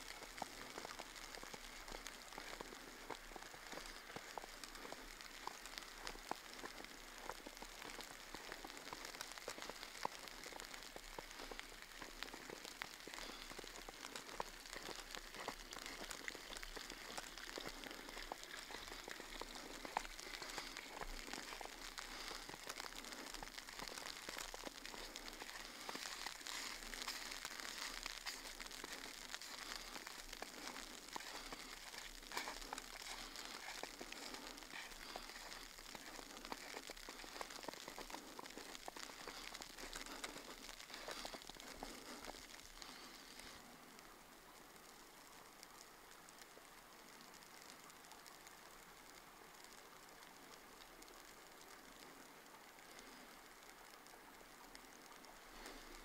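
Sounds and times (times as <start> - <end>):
wet snow pattering: 0.0 - 56.0.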